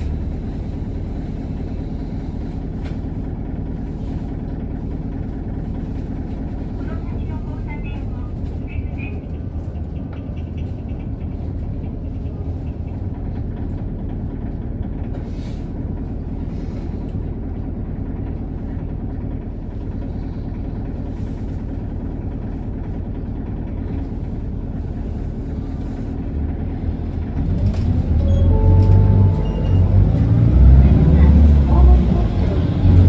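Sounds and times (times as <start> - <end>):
bus diesel engine idling: 0.0 - 33.0.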